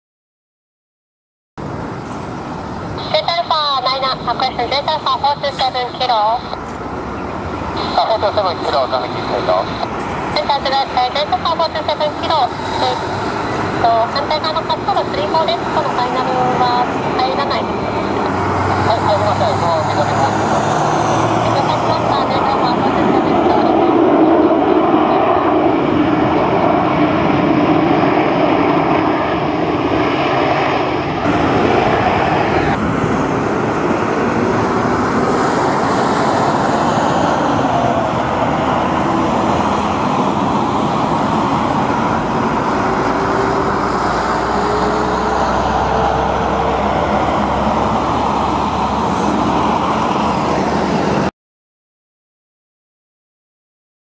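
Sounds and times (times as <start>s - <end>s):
jet engines rushing: 1.6s - 51.3s.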